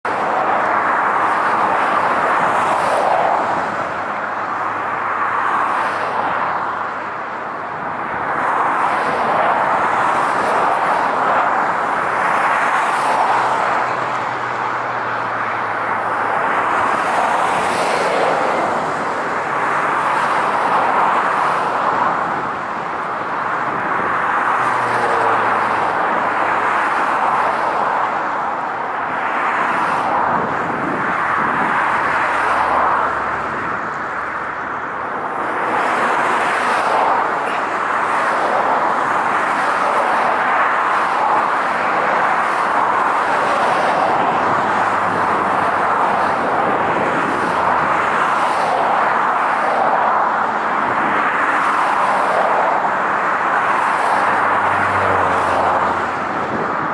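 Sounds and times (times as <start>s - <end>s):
jet engines at taxi thrust: 0.0s - 56.9s.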